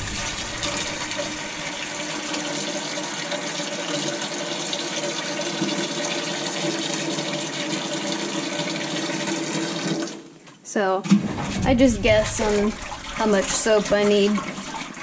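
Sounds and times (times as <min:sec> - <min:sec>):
faucet water running into metal bucket: 0:00.0 - 0:10.3, 0:11.3 - 0:15.0.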